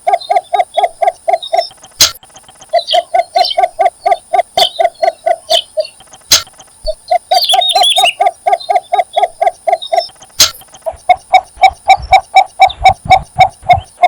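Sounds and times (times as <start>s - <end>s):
chicks begging chirps: 0.0s - 14.0s
sharp clicks: 0.4s - 14.0s.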